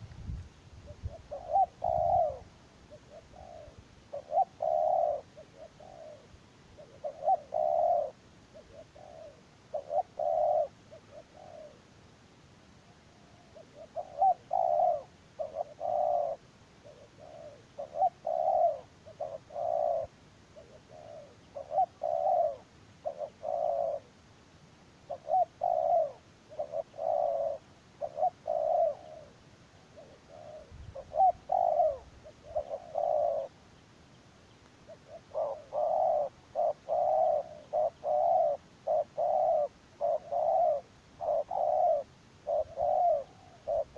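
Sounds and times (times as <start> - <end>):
dove cooing: 0.8 - 12.0, 13.1 - 24.2, 25.0 - 33.6, 34.8 - 43.9.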